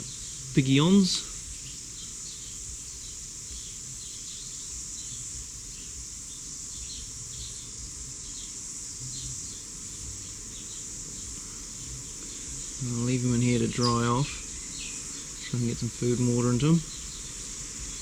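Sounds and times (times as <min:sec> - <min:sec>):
bird chirps: 0:00.0 - 0:18.0
high-pitched insect drone: 0:00.0 - 0:18.0.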